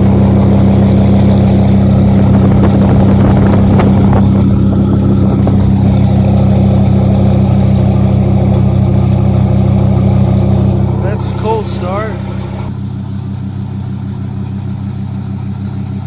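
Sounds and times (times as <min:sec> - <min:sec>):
loud truck engine idling: 0:00.0 - 0:16.0.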